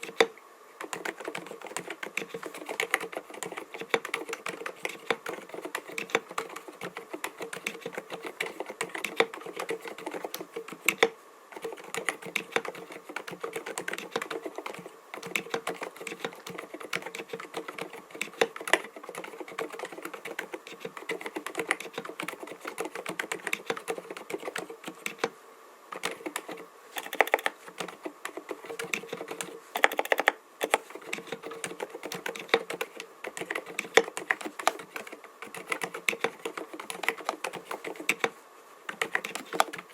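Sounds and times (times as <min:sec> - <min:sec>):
fast typing on mechanical keyboard: 0:00.0 - 0:25.3, 0:25.9 - 0:39.9.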